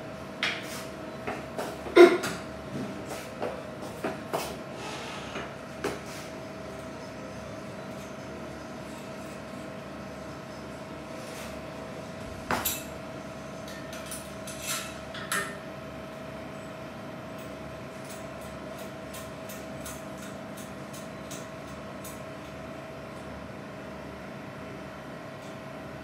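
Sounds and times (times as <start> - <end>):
machine hum with whine: 0.0 - 26.0.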